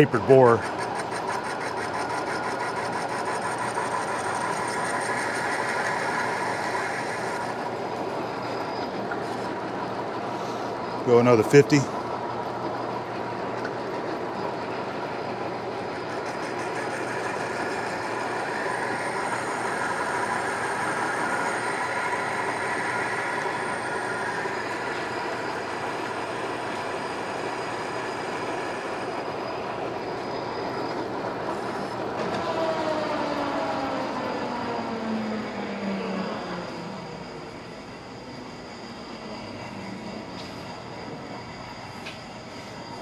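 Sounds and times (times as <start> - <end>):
thin high whine: 0.0 - 12.2, 13.6 - 43.0
lathe cutting noise: 0.0 - 42.9.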